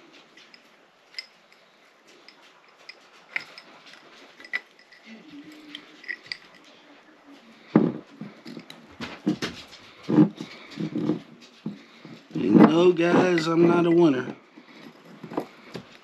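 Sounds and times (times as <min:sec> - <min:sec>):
glass jar clinking: 0:00.4 - 0:06.8, 0:07.8 - 0:09.4, 0:10.0 - 0:16.0.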